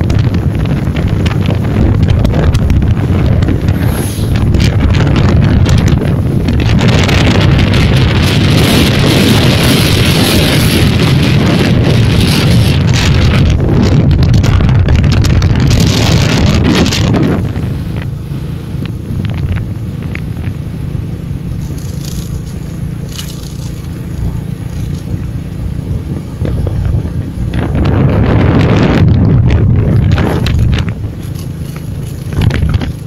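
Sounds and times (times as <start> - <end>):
motorbike rumble: 0.0 - 33.0
tyres on road: 0.0 - 33.0
wind buffeting microphone: 0.0 - 33.0.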